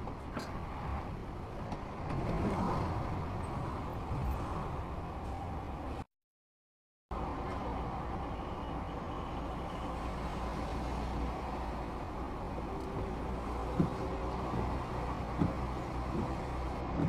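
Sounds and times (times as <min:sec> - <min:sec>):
traffic engine rumble: 0:00.0 - 0:06.1, 0:07.1 - 0:17.0.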